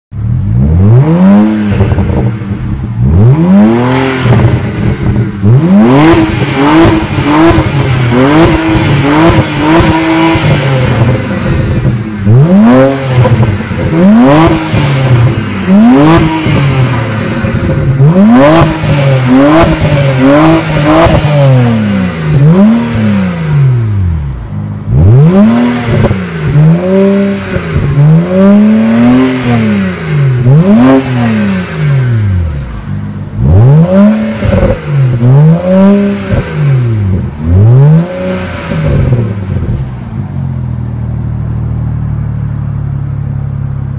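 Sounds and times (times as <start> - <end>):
car engine idling: 0.1 - 43.9
car engine revving with crackles: 0.1 - 43.9.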